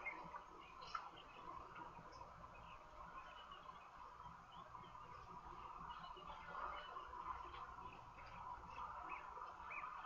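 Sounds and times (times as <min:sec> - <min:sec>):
bird chirps: 0:00.0 - 0:10.0.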